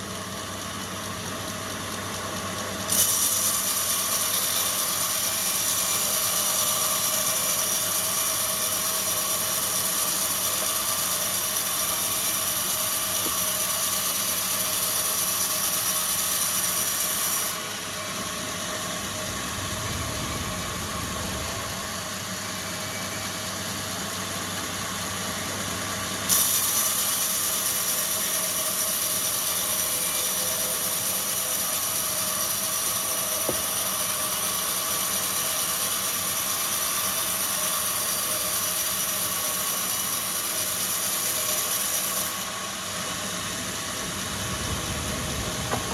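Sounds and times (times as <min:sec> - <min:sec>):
factory machinery running: 0:00.0 - 0:45.9.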